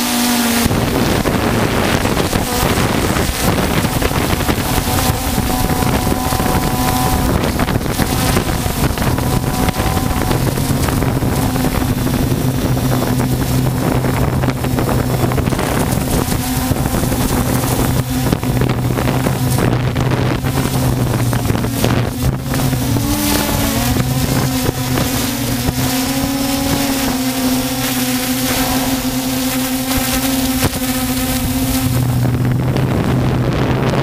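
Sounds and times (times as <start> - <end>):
drone propellers humming: 0.0 - 34.0
wind noise on microphone: 0.0 - 34.0.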